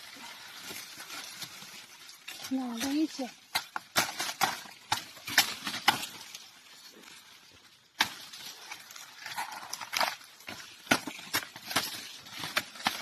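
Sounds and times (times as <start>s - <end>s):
dry leaf rustle: 0.0s - 13.0s
dry corn stalks being chopped: 0.2s - 6.5s, 8.0s - 13.0s.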